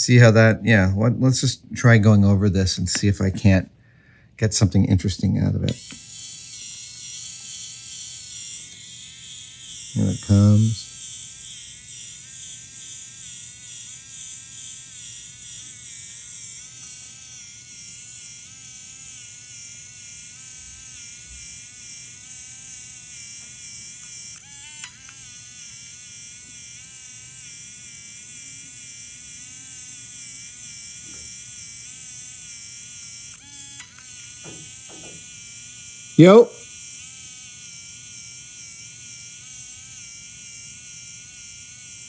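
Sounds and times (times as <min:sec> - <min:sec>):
small motor whining: 0:05.6 - 0:42.0.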